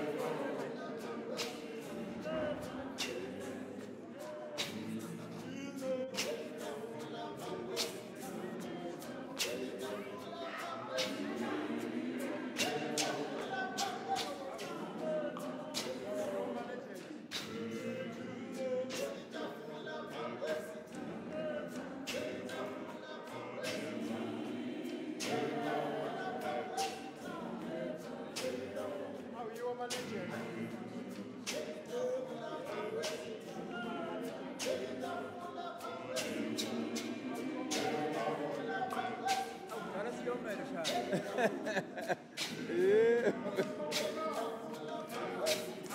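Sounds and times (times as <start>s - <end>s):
choir singing a cappella: 0.0s - 45.9s.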